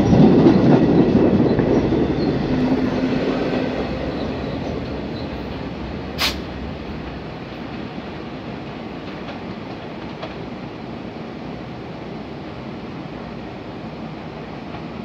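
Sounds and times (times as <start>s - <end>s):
train rumble and wheel noise: 0.0s - 15.0s.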